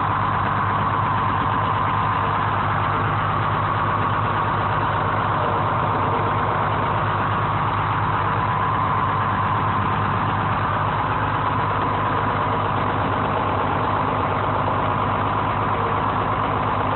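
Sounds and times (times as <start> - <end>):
crane diesel engine running: 0.0 - 16.9.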